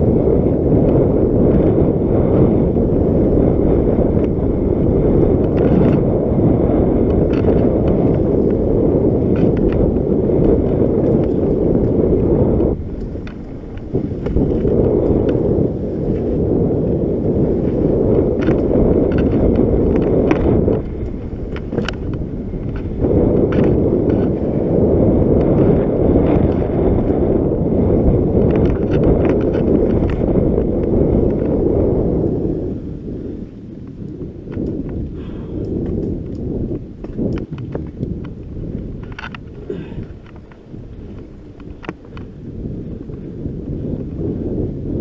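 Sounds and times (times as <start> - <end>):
bike rattling over bumps: 0.0 - 45.0
wind buffeting microphone: 0.0 - 45.0.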